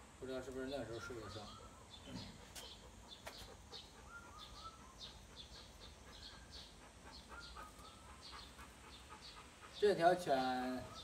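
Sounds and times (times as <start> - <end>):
faint bird chirping: 0.2 - 11.0
lower bird calls: 0.5 - 11.0.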